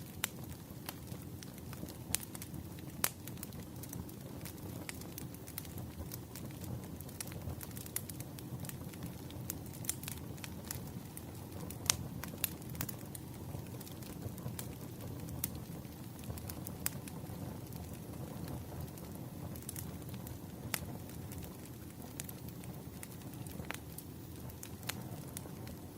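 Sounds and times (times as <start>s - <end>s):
burning wood crackling and popping: 0.0s - 25.9s
campfire flames rumbling: 0.0s - 25.9s.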